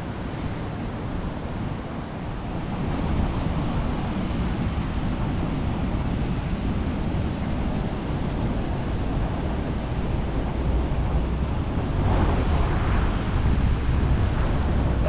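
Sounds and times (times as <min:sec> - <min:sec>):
engine and tyre rumble: 0:00.0 - 0:15.0
wind noise on microphone: 0:00.0 - 0:15.0.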